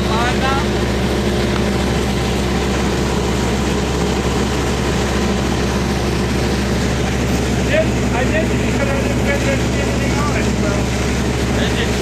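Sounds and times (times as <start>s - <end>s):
heavy machinery engine running: 0.0s - 12.0s.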